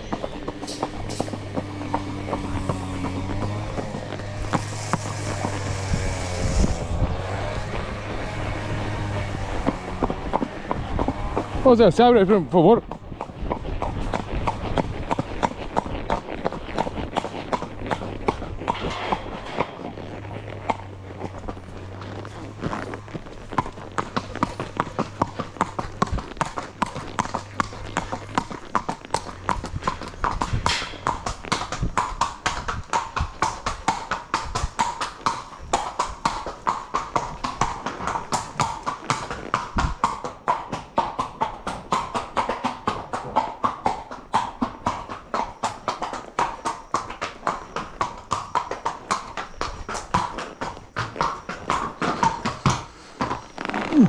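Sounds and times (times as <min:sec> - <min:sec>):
horse hooves clip-clopping: 0:00.0 - 0:54.0.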